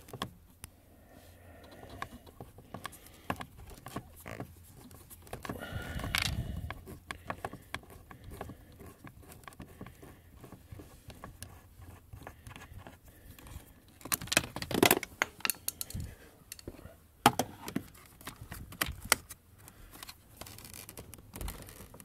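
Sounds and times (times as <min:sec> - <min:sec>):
handling noise and clicking: 0:00.0 - 0:00.7, 0:01.6 - 0:22.0.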